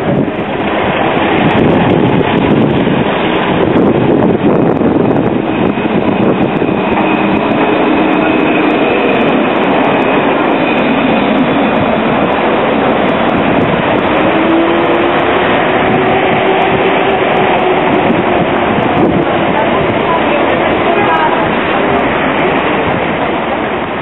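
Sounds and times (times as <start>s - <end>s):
electric tram rolling: 0.0s - 24.0s
high tram motor whine: 0.0s - 24.0s
low rising tram whine: 0.0s - 24.0s.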